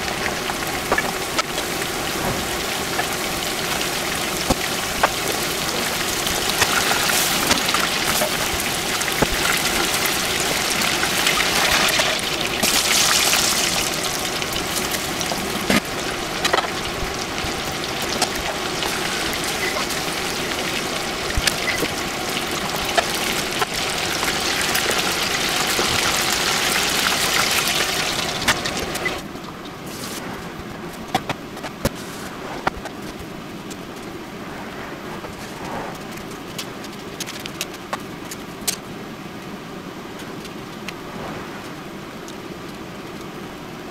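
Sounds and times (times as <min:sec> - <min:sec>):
chicken deep-frying in oil: 0:00.0 - 0:34.8, 0:36.1 - 0:38.9.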